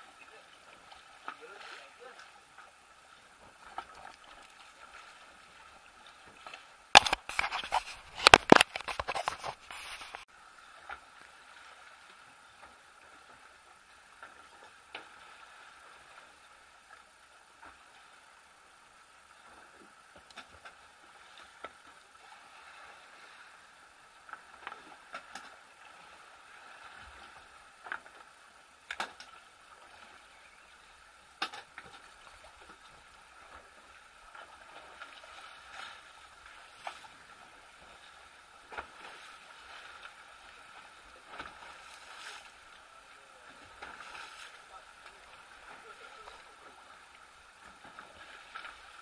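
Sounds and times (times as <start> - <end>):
water lapping against boat: 0.0 - 49.0.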